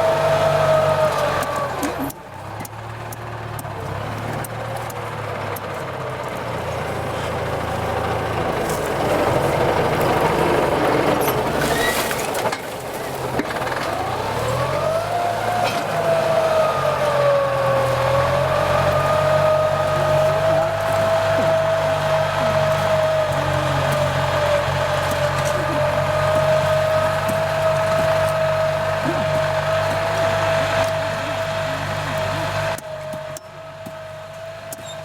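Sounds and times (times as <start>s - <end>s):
tractor diesel engine under load: 0.0s - 35.0s.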